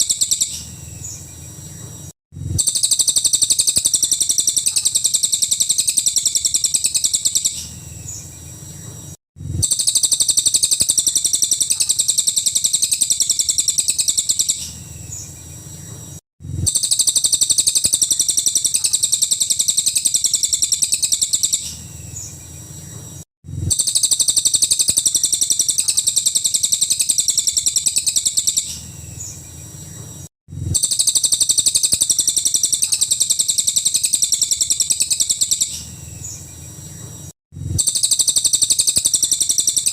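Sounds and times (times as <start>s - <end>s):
songbird chattering trill: 0.0s - 39.9s.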